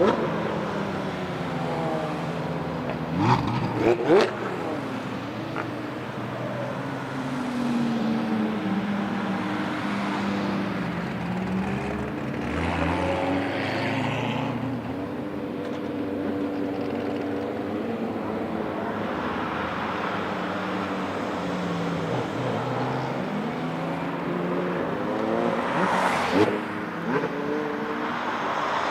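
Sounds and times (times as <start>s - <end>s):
racing car engines revving: 0.0s - 28.9s.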